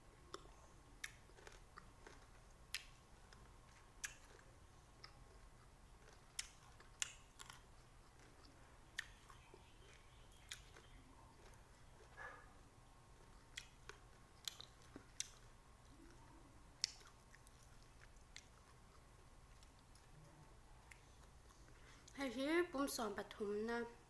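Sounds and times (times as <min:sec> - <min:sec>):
person chewing with wet clicks: 0:00.2 - 0:12.3, 0:13.1 - 0:20.2, 0:20.8 - 0:22.2.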